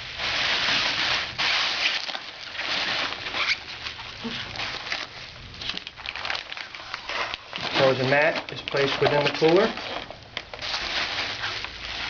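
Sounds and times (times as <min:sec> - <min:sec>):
plastic bubble bag crinkling: 0:00.0 - 0:12.0.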